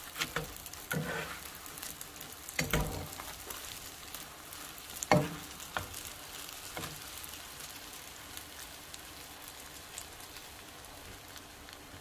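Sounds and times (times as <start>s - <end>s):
oil sizzling softly: 0.0s - 12.0s.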